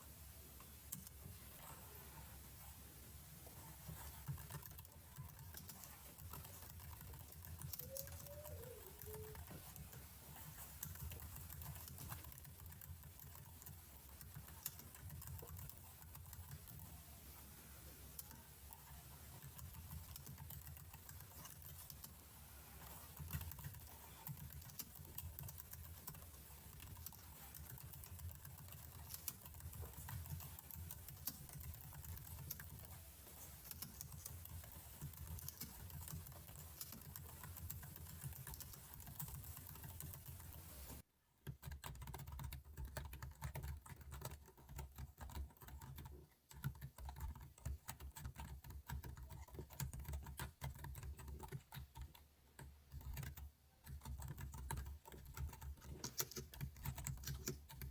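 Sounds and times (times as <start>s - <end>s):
computer keyboard typing: 3.5s - 57.9s.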